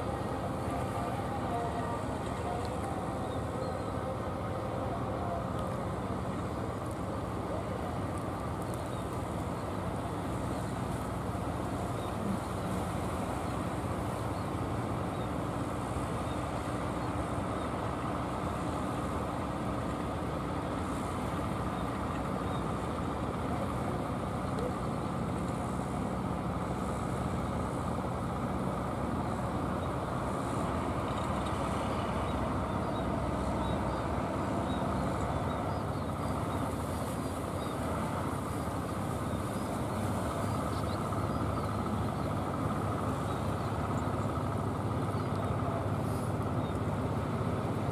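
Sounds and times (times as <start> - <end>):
boat engines droning: 0.0 - 47.9.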